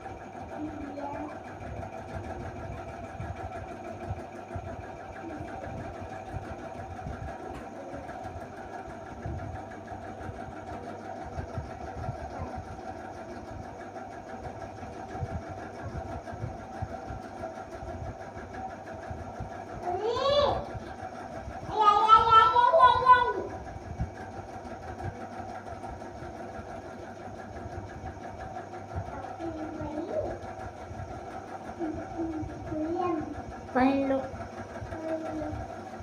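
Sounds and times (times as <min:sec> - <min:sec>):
motor humming with whine: 0:00.0 - 0:36.0.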